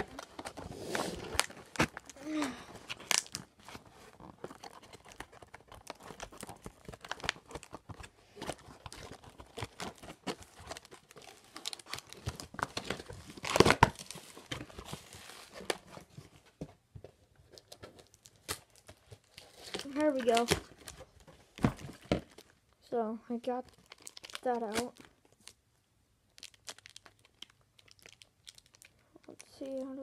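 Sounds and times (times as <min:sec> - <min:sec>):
plastic tearing: 0:00.0 - 0:16.0, 0:17.6 - 0:22.6, 0:23.6 - 0:25.6, 0:26.4 - 0:30.0
plastic packaging crinkling: 0:00.0 - 0:16.3, 0:17.5 - 0:22.7, 0:23.4 - 0:25.6, 0:26.3 - 0:30.0.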